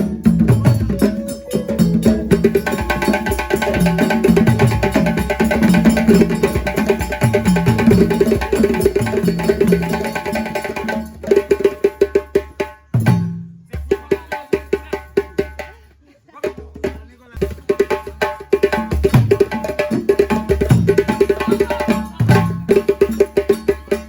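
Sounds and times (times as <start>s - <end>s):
percussion-driven music: 0.0s - 15.8s, 16.4s - 24.0s.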